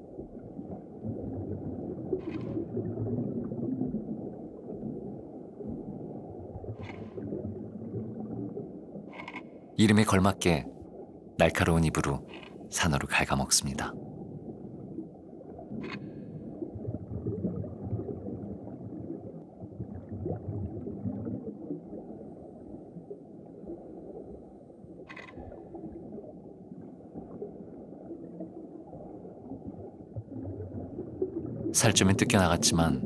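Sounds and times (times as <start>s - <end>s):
underwater gurgling rumble: 0.0s - 9.8s, 13.9s - 32.8s.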